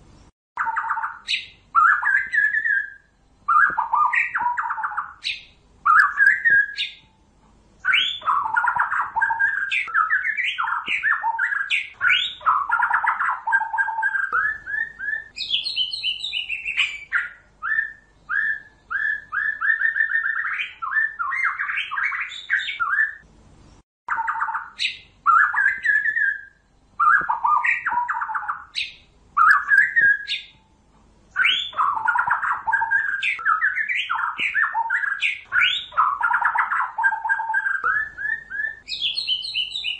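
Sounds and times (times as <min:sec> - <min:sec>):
songbird whistles and trills: 0:00.6 - 0:07.2, 0:07.8 - 0:39.9.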